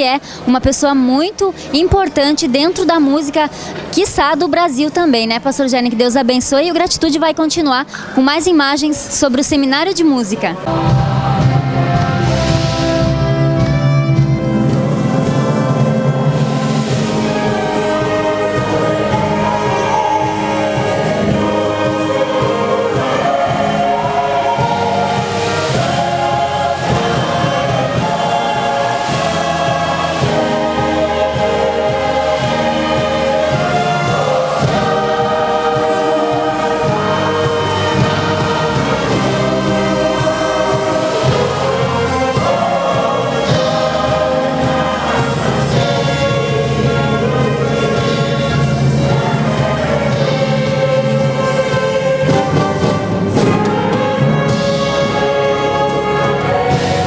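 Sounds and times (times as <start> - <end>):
choir singing a sacred song: 10.6 - 57.0
orchestral accompaniment: 10.6 - 57.0.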